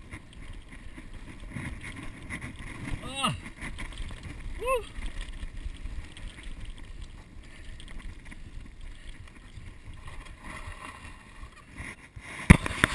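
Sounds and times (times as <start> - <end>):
bicycle tyres rolling on dirt: 0.0 - 12.9.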